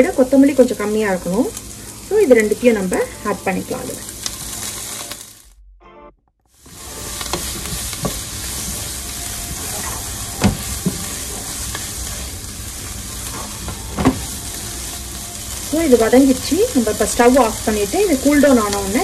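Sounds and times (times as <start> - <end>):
vegetables sizzling in oil: 0.0 - 5.4, 6.5 - 19.0.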